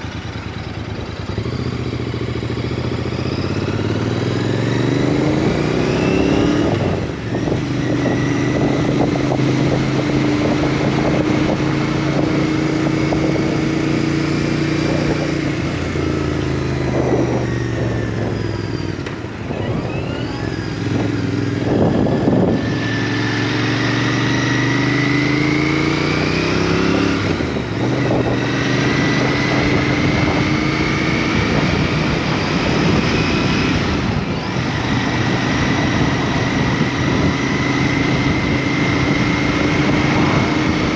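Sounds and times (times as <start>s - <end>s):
motorcycle engine revving: 0.0s - 40.9s
wind rush: 3.6s - 40.9s.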